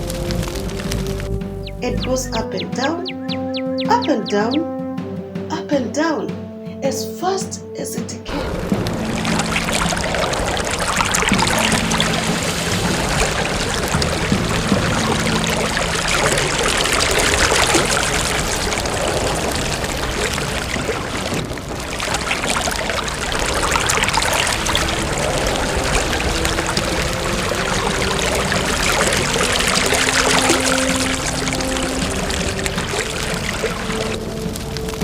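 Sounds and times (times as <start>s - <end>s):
rushing crackling noise: 0.0s - 4.9s, 8.3s - 35.0s
faint low background music: 0.0s - 35.0s.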